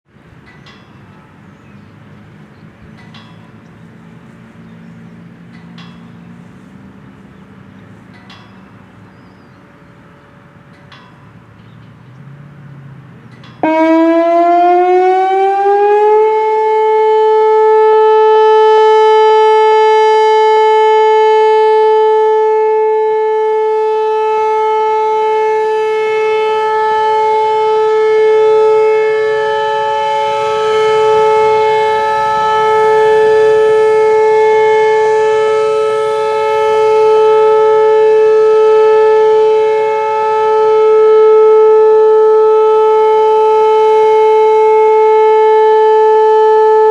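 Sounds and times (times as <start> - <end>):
outdoor warning siren: 2.2 - 9.0, 9.6 - 46.9.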